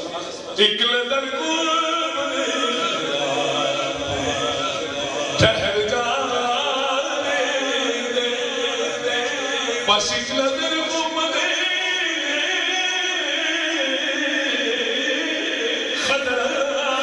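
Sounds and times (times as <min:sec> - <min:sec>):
man chanting into microphone: 0:00.1 - 0:17.0.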